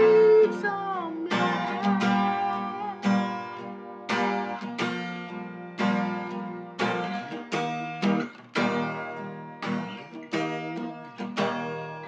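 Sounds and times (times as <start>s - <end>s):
guitar strumming chords: 0.0s - 12.0s.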